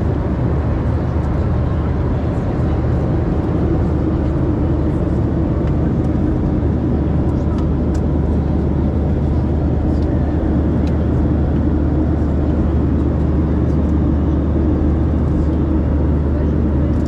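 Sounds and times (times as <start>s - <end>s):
low drone of jet engines: 0.0s - 17.0s.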